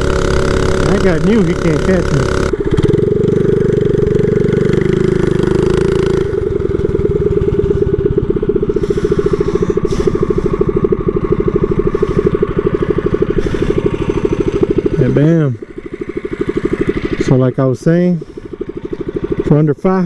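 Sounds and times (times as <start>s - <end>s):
mini bike engine running: 0.0s - 20.0s.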